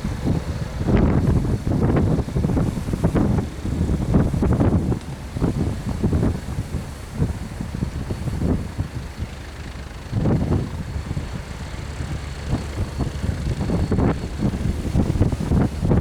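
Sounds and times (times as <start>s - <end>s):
helicopter high whine: 0.0s - 16.0s
wind buffeting microphone: 0.0s - 16.0s.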